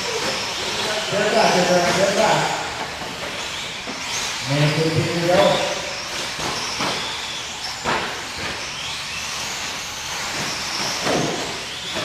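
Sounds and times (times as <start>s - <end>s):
high wavering motor whines: 0.0s - 12.0s.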